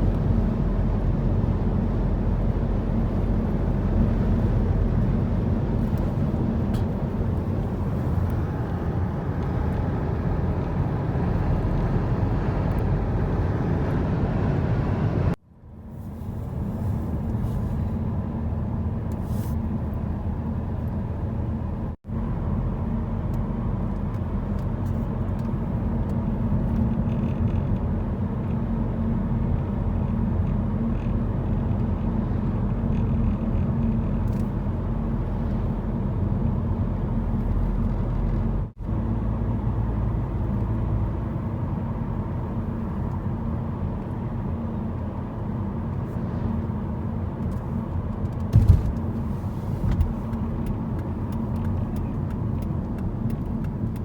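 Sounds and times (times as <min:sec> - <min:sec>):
car driving road and engine noise: 0:00.0 - 0:54.0.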